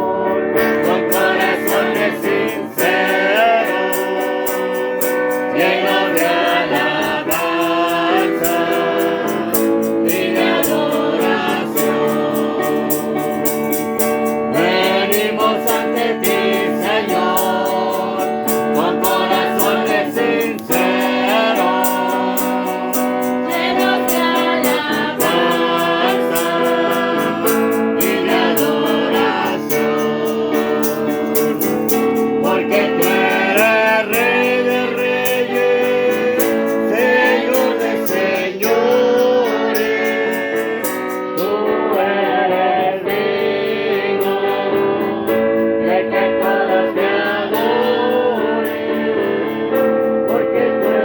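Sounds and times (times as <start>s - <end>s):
person singing a worship song: 0.0s - 51.0s
strummed guitar: 0.0s - 51.0s.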